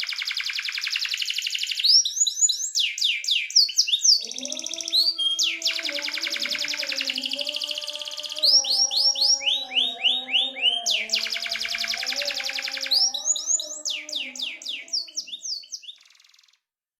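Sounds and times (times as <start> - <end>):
canary singing trills: 0.0 - 16.6.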